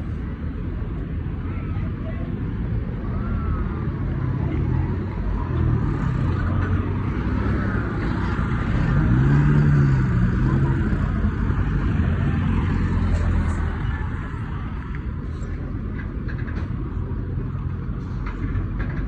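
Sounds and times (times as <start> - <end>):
traffic rumbling: 0.0 - 19.0.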